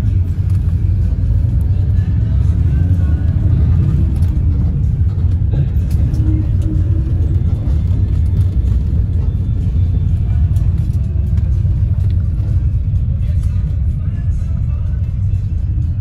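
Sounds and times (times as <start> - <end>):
bus engine and road noise: 0.0 - 16.0
faint music: 0.0 - 16.0.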